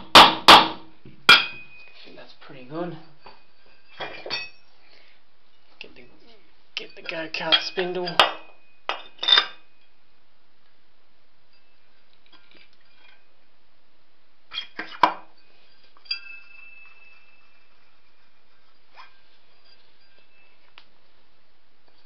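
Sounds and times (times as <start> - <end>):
metal clinking: 1.2 - 10.0, 11.5 - 13.4, 14.5 - 22.0
faint metallic ring: 1.2 - 10.2, 11.4 - 13.5, 14.5 - 22.0.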